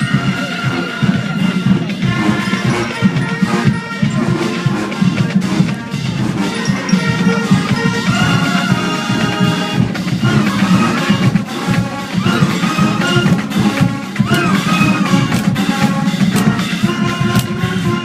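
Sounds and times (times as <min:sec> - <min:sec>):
brass melody with pitch slides: 0:00.0 - 0:18.0
drumline and bass drum: 0:00.0 - 0:18.0.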